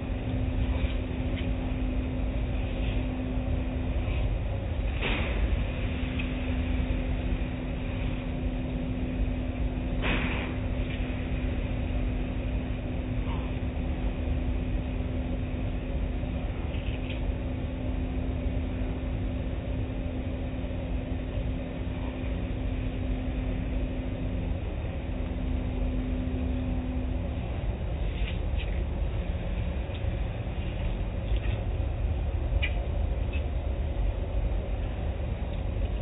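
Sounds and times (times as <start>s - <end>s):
deep rumble: 0.0s - 36.0s
wash machinery hum: 0.0s - 36.0s.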